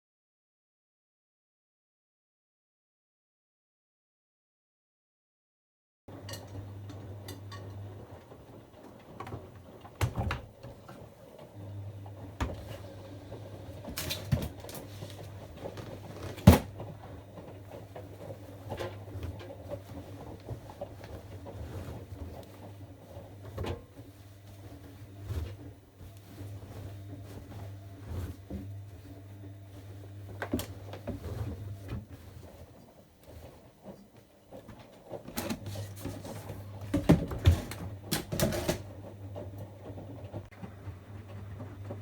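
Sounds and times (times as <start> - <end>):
washing machine humming: 6.1 - 42.0.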